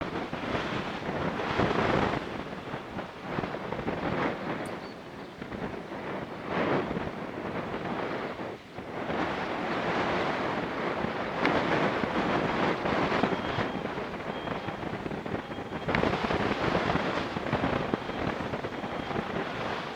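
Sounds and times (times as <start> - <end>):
gusty wind buffeting microphone: 0.0 - 19.9.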